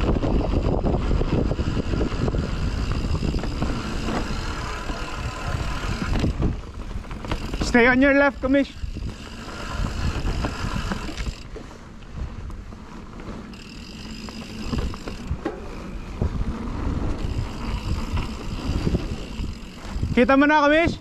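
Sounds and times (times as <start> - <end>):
bike knocks and rattles over bumps: 0.0 - 20.3
knobby tyres rumbling on dirt: 0.0 - 21.0.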